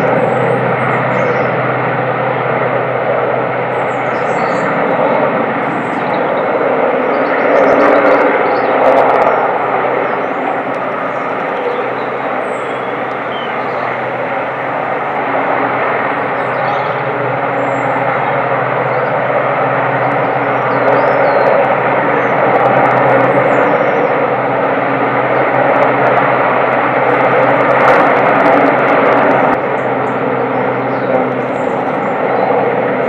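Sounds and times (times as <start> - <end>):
helicopter rotor and engine: 0.0 - 33.0.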